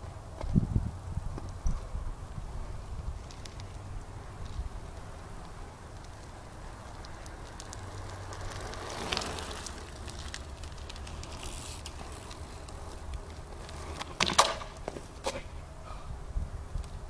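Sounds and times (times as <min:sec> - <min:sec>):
bike tyres rolling on pavement: 0:00.0 - 0:17.0.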